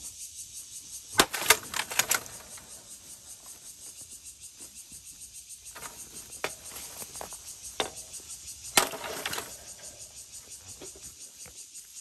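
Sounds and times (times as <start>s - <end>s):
insects chirping: 0.0s - 12.0s
rustling: 1.1s - 11.1s.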